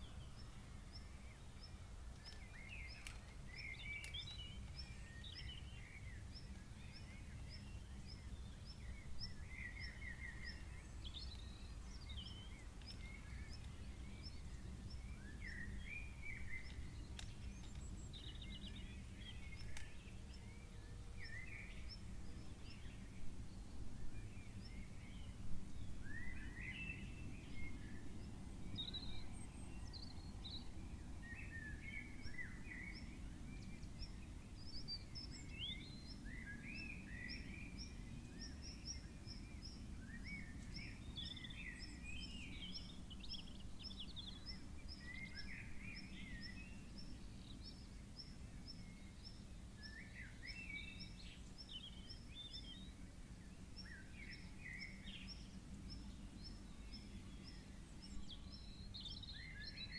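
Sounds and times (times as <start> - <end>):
birds chirping and warbling: 0.0 - 59.9.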